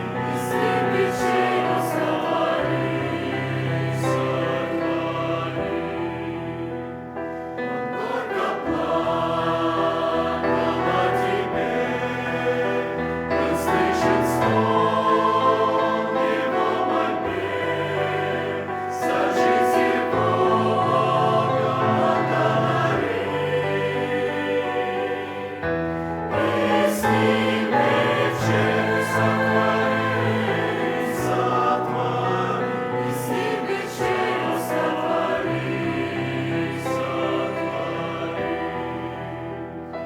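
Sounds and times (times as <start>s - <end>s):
choir singing a hymn: 0.0s - 40.0s.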